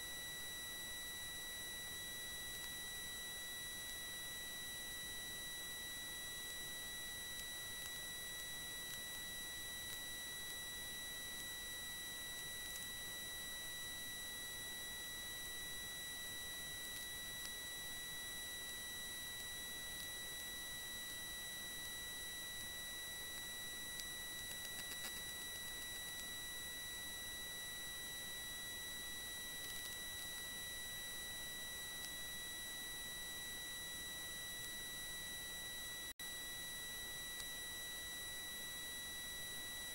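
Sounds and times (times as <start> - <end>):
high-pitched electronic whine: 0.0 - 39.9.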